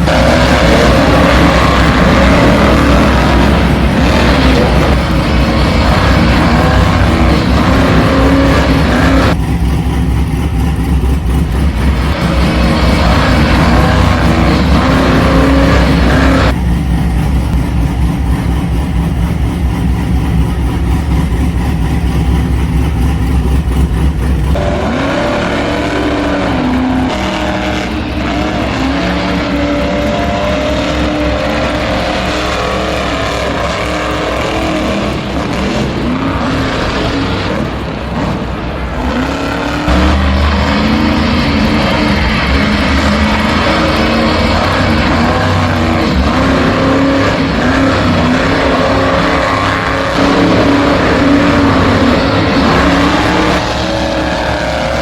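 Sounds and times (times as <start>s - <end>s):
electric motors whining and revving: 0.0s - 55.0s.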